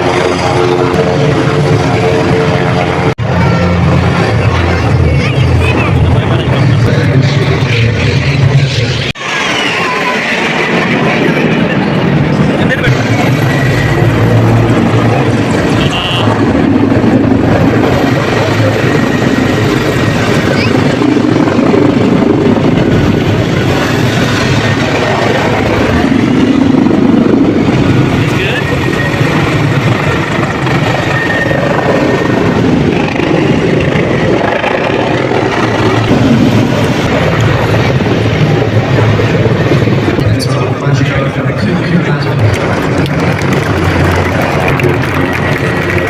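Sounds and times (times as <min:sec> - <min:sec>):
aircraft engine droning overhead: 0:00.0 - 0:46.0
helicopter flying past: 0:00.0 - 0:46.0.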